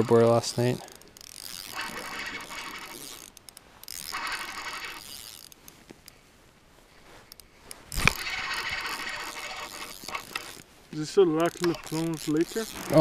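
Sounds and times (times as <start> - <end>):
fishing reel clicking: 0.0 - 5.6, 7.3 - 13.0.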